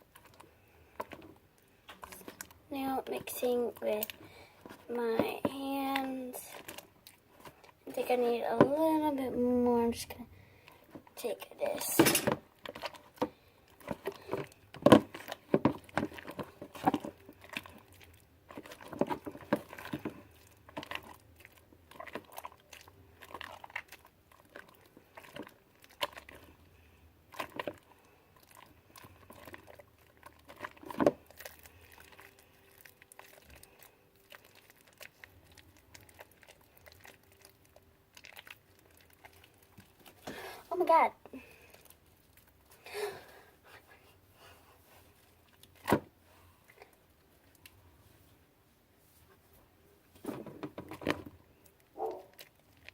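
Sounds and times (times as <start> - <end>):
slime squelching: 0.0 - 48.6, 49.7 - 52.9.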